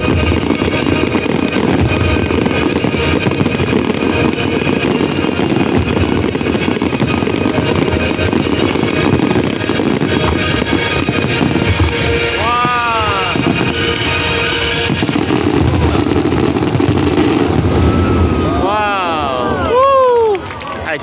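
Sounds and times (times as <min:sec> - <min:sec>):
fireworks explosions rumbling: 0:00.0 - 0:21.0.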